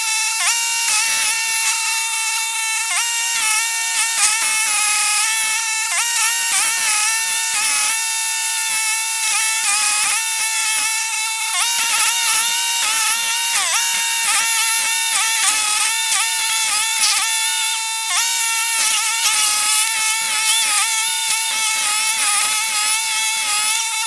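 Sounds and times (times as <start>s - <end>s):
stump grinder grinding wood: 0.0s - 24.0s.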